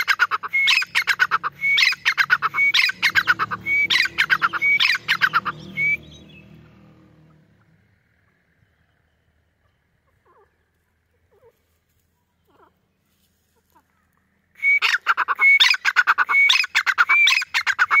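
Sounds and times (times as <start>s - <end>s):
francolin calling: 0.0s - 11.6s, 13.8s - 18.0s.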